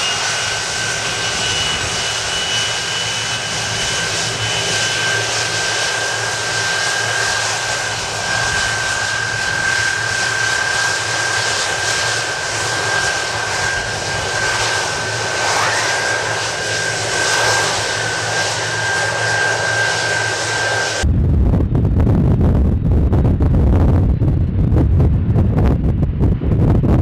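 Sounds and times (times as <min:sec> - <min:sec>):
high engine whine: 0:00.0 - 0:27.0
jet engines running: 0:00.0 - 0:27.0.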